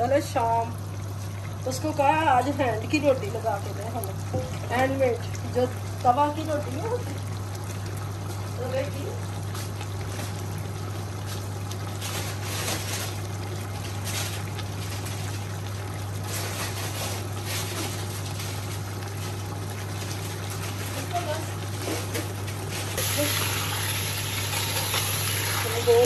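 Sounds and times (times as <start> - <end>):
broth bubbling in a pot: 0.0 - 26.0.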